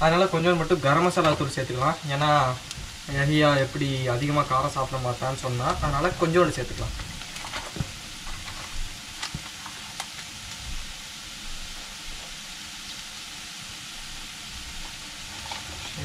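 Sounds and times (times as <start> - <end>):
vegetables sizzling in a frying pan: 0.0 - 16.0.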